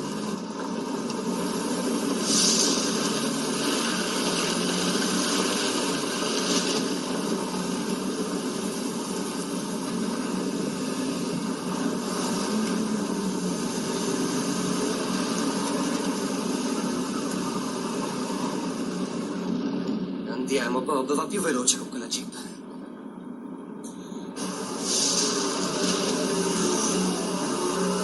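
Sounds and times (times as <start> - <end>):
bright hiss: 0.0 - 19.5, 24.4 - 28.0
vehicle engine and road noise: 0.0 - 20.3, 24.4 - 28.0.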